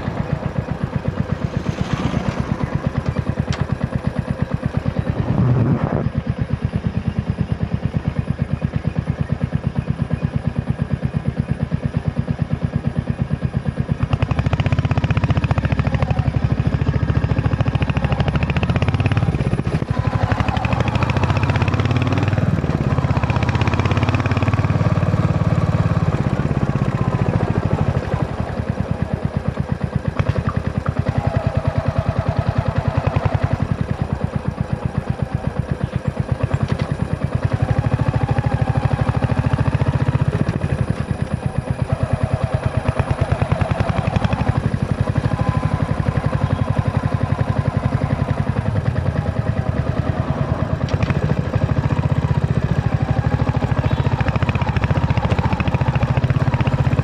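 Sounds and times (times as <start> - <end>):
motorcycle engine thumping: 0.0 - 7.1, 16.6 - 57.0.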